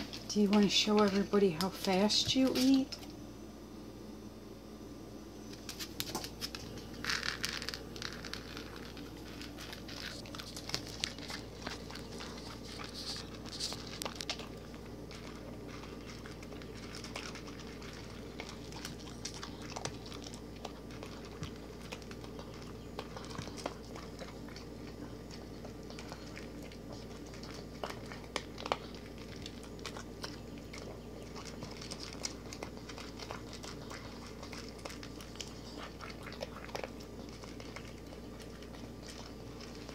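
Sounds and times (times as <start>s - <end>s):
dog crunching dry kibble: 0.0s - 3.2s, 5.4s - 39.9s.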